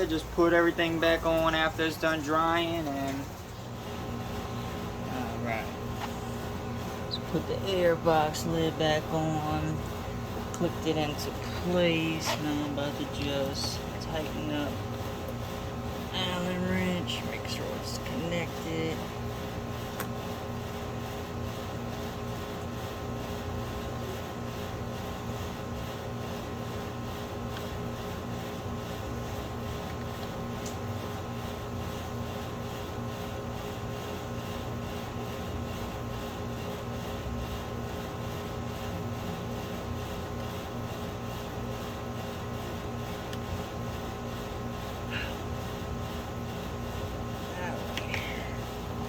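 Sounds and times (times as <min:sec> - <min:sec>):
steady mechanical hum: 0:00.0 - 0:49.0.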